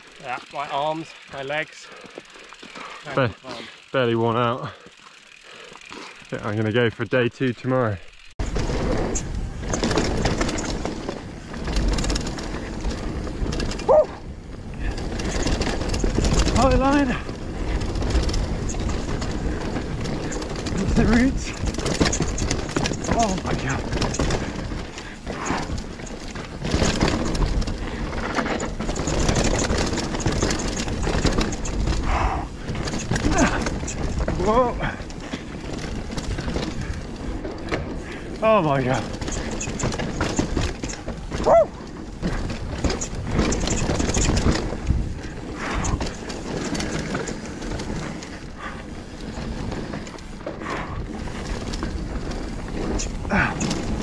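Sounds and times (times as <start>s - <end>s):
bike parts rattling: 0.0s - 54.0s
bike tyres rumbling over roots: 0.0s - 54.0s
wind noise on microphone: 8.4s - 54.0s.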